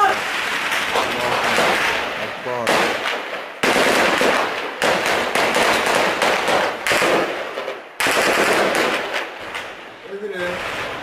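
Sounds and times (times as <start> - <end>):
gunshots echoing: 0.0 - 9.8.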